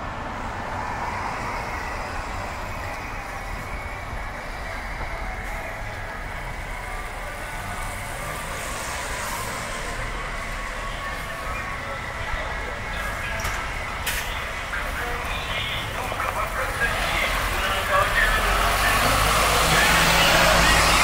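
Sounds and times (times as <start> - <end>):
city rumble and hubbub: 0.0 - 21.0.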